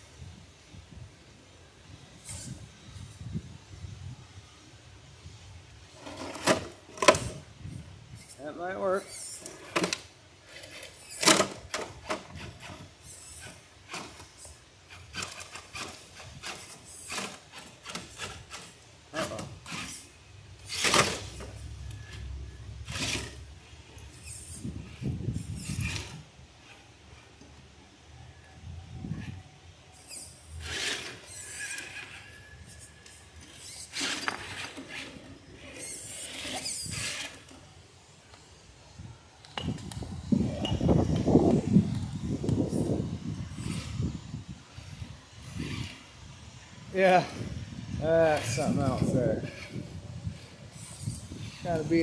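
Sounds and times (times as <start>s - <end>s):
toy car scraping against rock: 2.2s - 3.3s, 5.8s - 27.6s, 29.0s - 38.6s, 39.6s - 46.2s, 46.9s - 52.0s.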